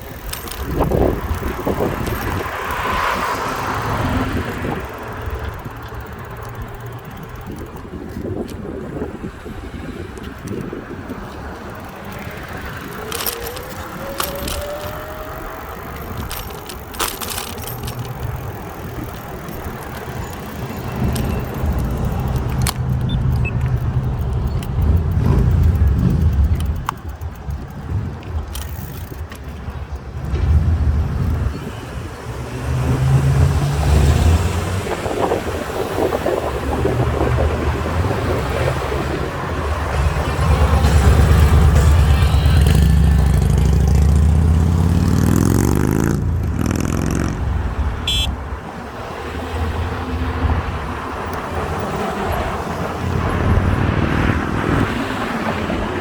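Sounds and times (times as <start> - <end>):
bicycle clicks and rattles: 0.0 - 32.4, 33.0 - 56.0
traffic rumble: 0.0 - 56.0.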